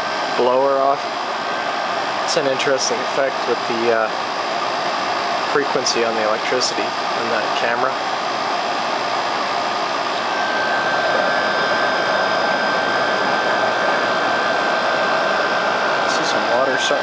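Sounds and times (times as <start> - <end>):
air conditioner fan rushing: 0.0 - 17.0.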